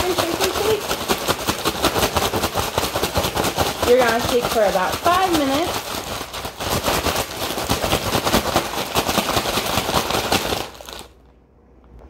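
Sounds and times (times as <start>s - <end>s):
ice rattling in bag: 0.0s - 11.2s
plastic bag crinkling: 0.0s - 11.2s.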